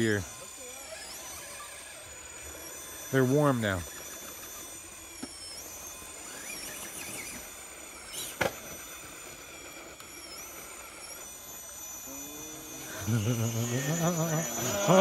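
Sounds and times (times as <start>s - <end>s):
rc crawler motor whining: 0.0s - 15.0s.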